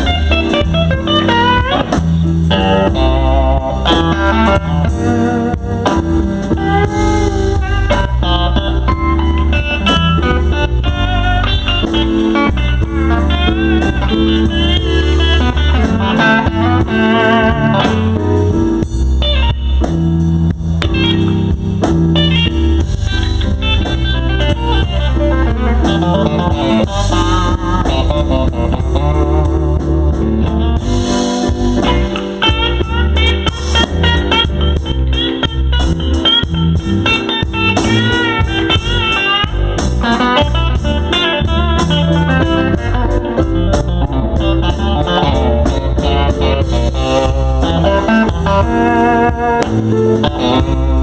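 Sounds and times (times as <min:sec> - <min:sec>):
bass and drums: 0:00.0 - 0:51.0
electric guitar blues solo: 0:00.0 - 0:51.0.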